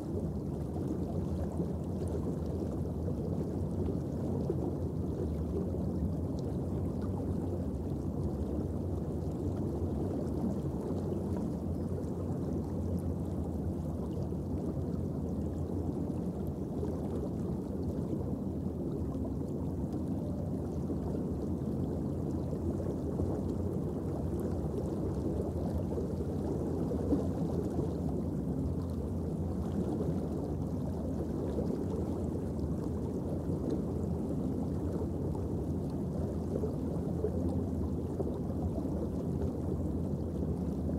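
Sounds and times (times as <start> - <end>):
underwater water rush: 0.0 - 40.9.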